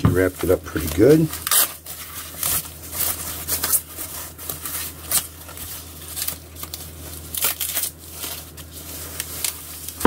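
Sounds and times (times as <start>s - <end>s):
foam wrap and plastic bag crinkling: 0.0s - 10.0s.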